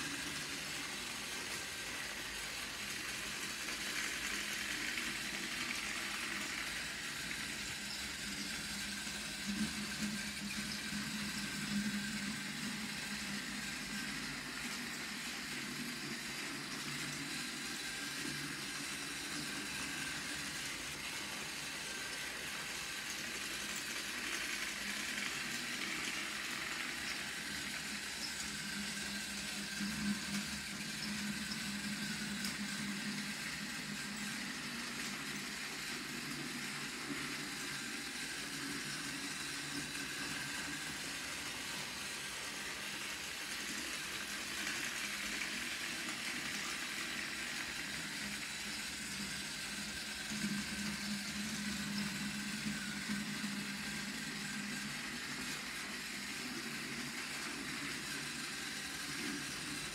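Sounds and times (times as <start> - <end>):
toy train motor whirring: 0.0 - 59.9
wheels rattling on plastic track: 0.0 - 59.9.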